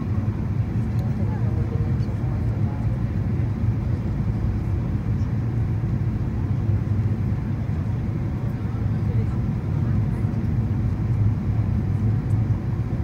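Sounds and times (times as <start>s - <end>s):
jet airliner cabin rumble: 0.0s - 13.0s.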